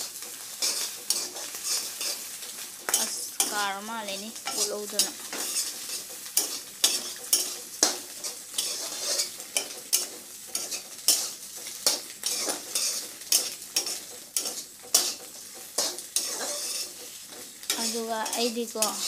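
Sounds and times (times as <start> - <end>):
noodles sizzling in a pan: 0.0 - 19.0
spatula scraping a steel pan: 0.2 - 19.0.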